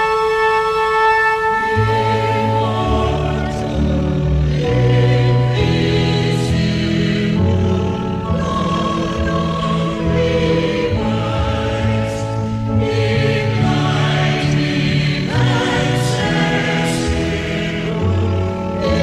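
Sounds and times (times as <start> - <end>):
choir singing in harmony: 0.0 - 19.0
sustained chords: 0.0 - 19.0.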